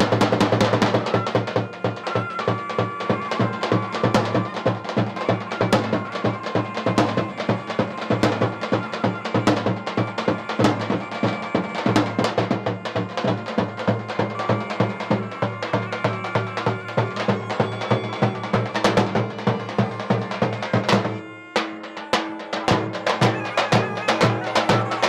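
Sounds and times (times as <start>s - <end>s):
large drums beaten in fast rhythm: 0.0s - 25.0s.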